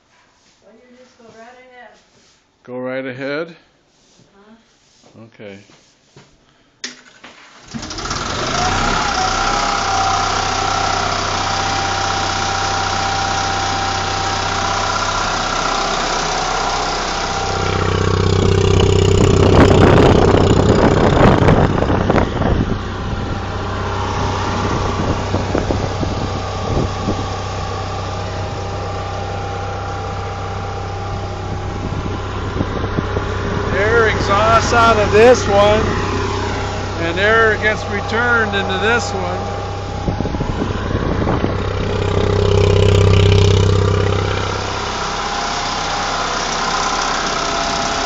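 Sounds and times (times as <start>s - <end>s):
generator rattling: 7.1s - 48.0s
generator engine running: 7.6s - 48.0s.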